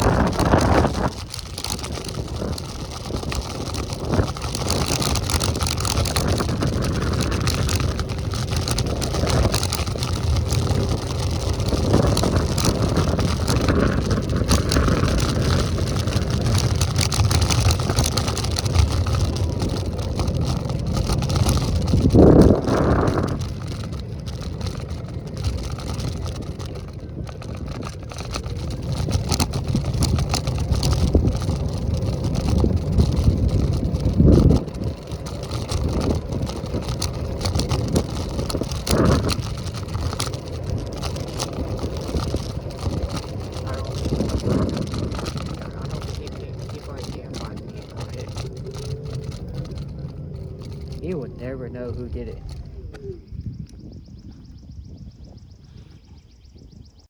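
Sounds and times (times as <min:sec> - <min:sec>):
road rumble: 0:00.0 - 0:57.0
wind on microphone: 0:00.0 - 0:57.0.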